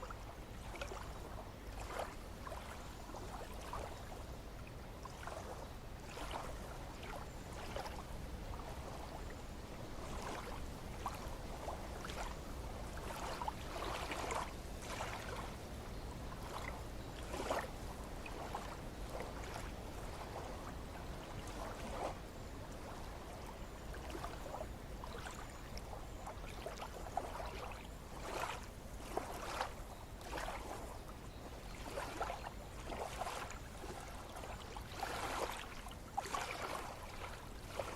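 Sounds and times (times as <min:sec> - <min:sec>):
small waves lapping and splashing: 0:00.0 - 0:37.9.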